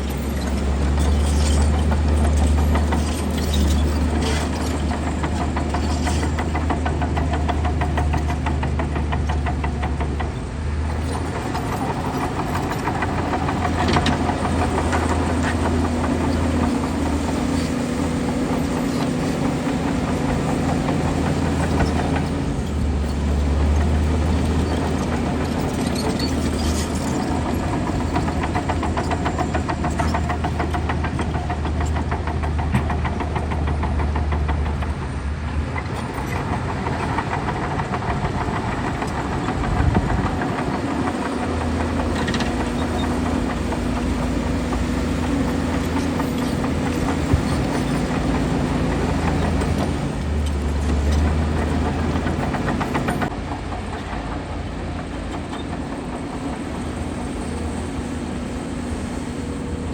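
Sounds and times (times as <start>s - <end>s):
bulldozer diesel engine: 0.0s - 59.9s
steel tracks clattering: 0.0s - 59.9s.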